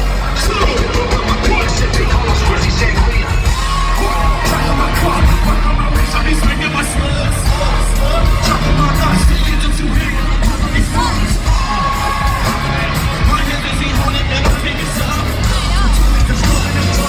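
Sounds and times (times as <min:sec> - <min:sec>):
crowd: 0:00.0 - 0:17.0
live rap music with heavy bass: 0:00.0 - 0:17.0
rapping vocals: 0:00.0 - 0:17.0.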